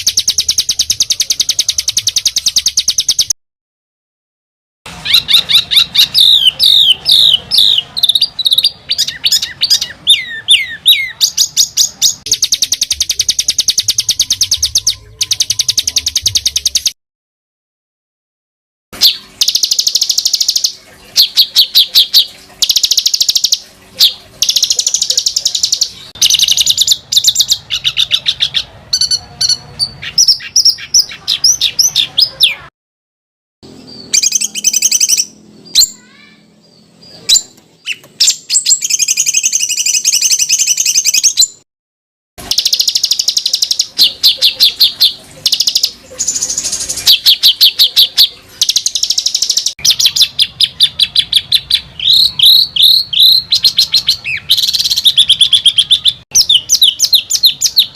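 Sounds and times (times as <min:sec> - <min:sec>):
songbird chattering trills: 0:04.9 - 0:17.0, 0:19.0 - 0:32.7, 0:33.7 - 0:41.4, 0:42.4 - 0:57.9.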